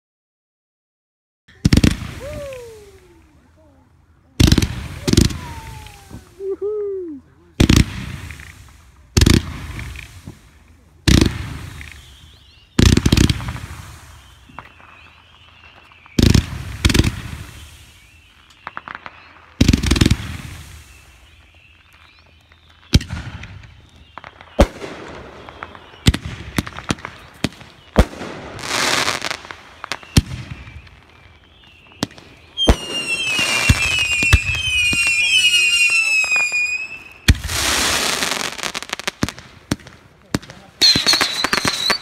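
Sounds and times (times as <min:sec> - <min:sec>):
firework cracks and pops: 0:01.5 - 0:03.6, 0:04.4 - 0:06.8, 0:07.6 - 0:42.0
whistling fireworks: 0:01.5 - 0:42.0
firework booms: 0:01.6 - 0:03.2, 0:04.4 - 0:06.4, 0:07.6 - 0:21.5, 0:22.8 - 0:42.0.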